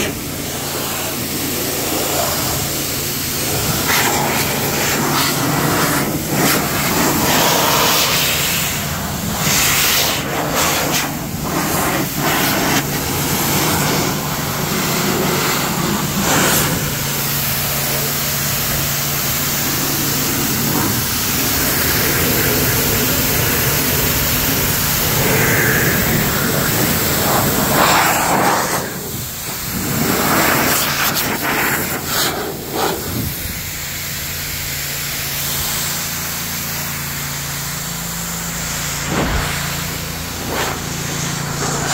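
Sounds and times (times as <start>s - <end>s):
electric blower rushing air: 0.0s - 41.9s.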